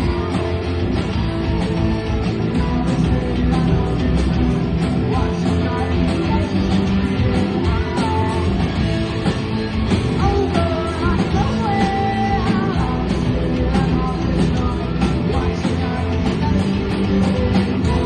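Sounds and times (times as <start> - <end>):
bending lead guitar melody: 0.0 - 18.0
rock band playing: 0.0 - 18.0.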